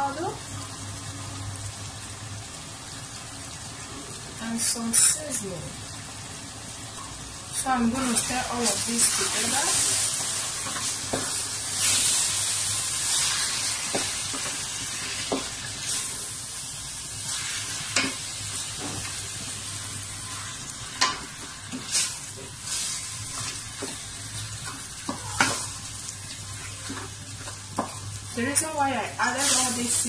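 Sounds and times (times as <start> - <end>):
chicken sizzling: 0.0 - 30.0.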